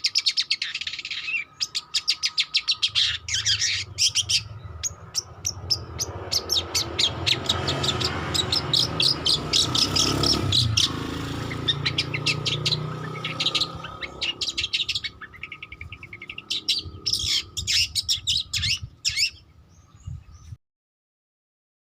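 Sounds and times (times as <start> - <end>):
bird scratchy chattering song: 0.0 - 20.6.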